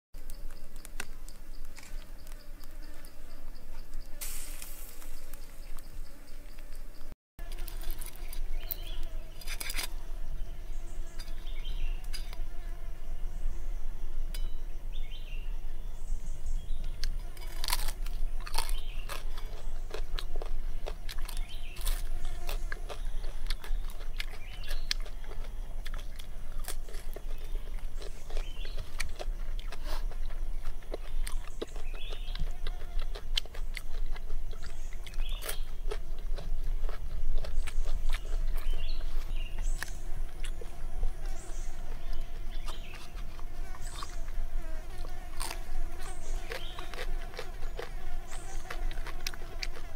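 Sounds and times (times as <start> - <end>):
crunching and chewing: 0.2 - 6.2, 7.4 - 10.1, 16.6 - 49.9.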